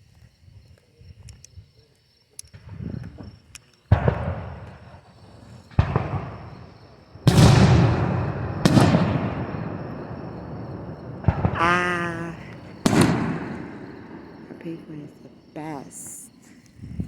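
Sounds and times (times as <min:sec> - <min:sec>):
fireworks booming: 0:02.6 - 0:17.0
fireworks crackling: 0:02.6 - 0:17.0.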